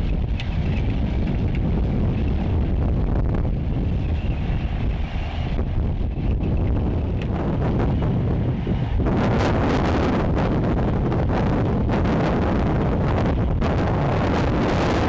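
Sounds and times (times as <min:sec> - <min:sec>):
engine and machinery rumble: 0:00.0 - 0:15.0
wind buffeting microphone: 0:00.0 - 0:15.0.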